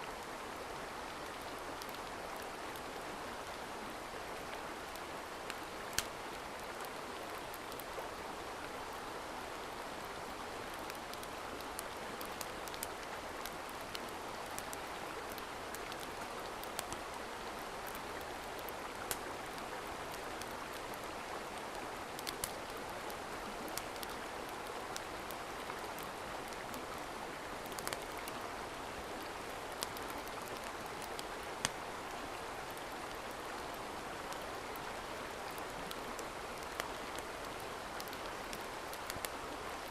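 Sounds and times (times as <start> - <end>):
campfire crackling: 0.2 - 39.9.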